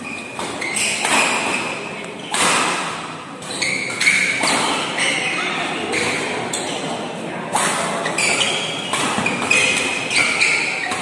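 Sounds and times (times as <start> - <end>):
rackets hitting shuttlecock: 0.2 - 11.0.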